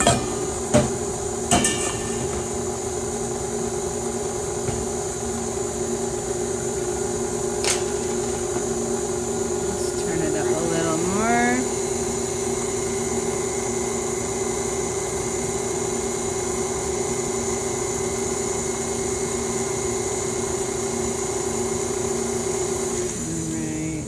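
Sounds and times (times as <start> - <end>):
stand mixer motor humming: 2.8 - 24.0.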